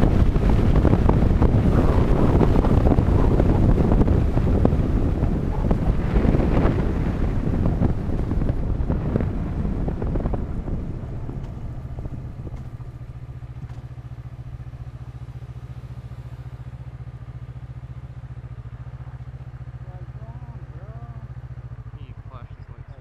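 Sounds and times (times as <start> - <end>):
motorcycle engine idling: 0.0 - 23.0
wind rush from riding: 0.0 - 23.0.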